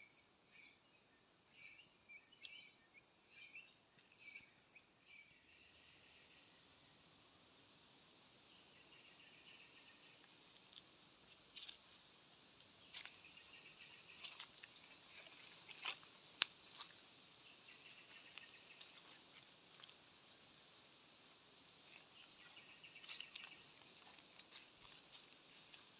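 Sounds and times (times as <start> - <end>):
faint insect chorus: 0.0 - 25.9.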